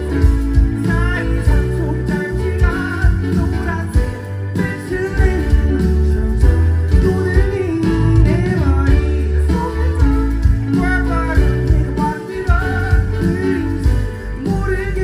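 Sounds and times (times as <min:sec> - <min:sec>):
heavy bass and drums: 0:00.0 - 0:15.0
live band playing pop-rock: 0:00.0 - 0:15.0
man singing lead vocal: 0:00.0 - 0:15.0.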